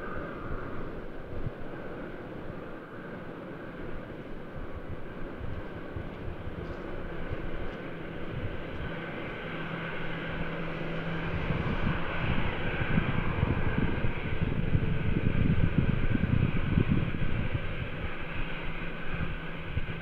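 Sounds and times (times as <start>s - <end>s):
jet engine whine: 0.0s - 20.0s.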